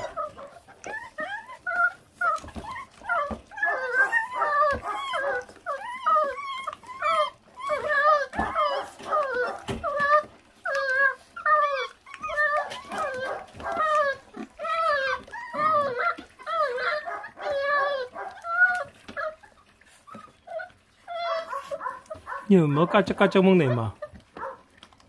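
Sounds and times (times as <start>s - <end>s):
gnawing on meat and bone: 0.0s - 25.0s
puppies whining and yelping: 0.0s - 25.0s.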